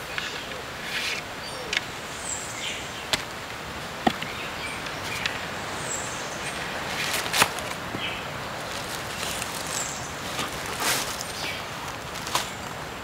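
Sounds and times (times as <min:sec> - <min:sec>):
forest ambience: 0:00.0 - 0:13.0.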